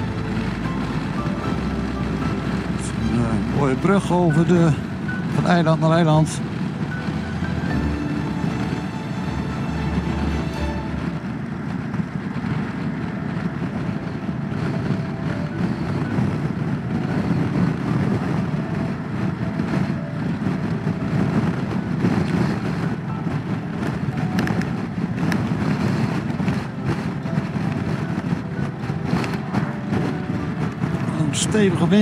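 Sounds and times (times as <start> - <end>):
motorcycle engine and tyres: 0.0 - 32.0
wind rushing on microphone: 0.0 - 32.0.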